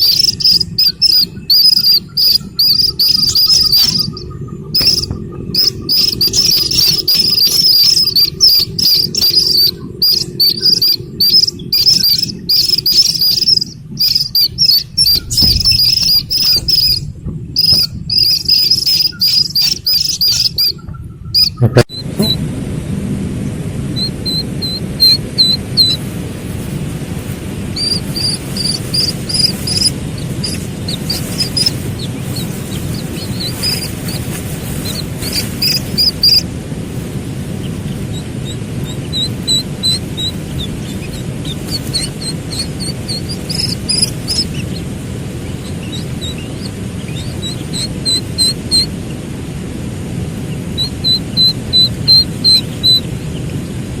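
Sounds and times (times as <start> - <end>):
chicks peeping chirps: 0.0 - 22.4, 24.0 - 49.2, 50.4 - 53.8
low background hiss: 0.0 - 54.0.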